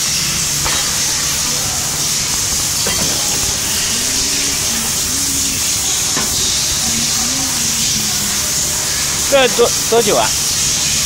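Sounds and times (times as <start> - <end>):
hydraulic press hissing: 0.0 - 11.0.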